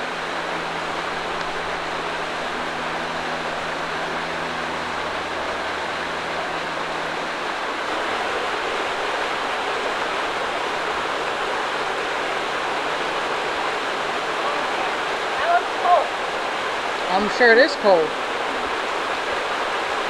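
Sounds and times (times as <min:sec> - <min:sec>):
creek rushing over boulders: 0:00.0 - 0:20.0.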